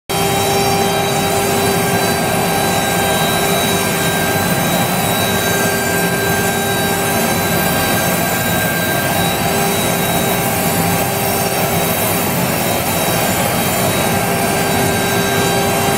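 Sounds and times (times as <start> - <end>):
bit milling wood: 0.1 - 15.9
router spindle high whine: 0.1 - 15.9.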